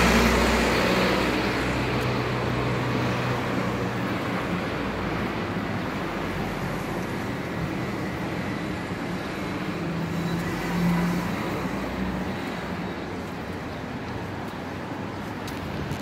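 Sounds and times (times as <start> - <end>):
passing cars rumbling: 0.0 - 16.0.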